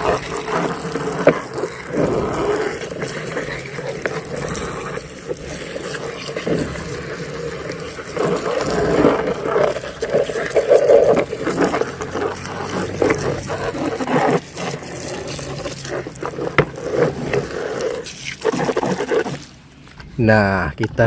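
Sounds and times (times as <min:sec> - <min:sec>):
plastic toys scraping in mud: 0:00.0 - 0:19.9.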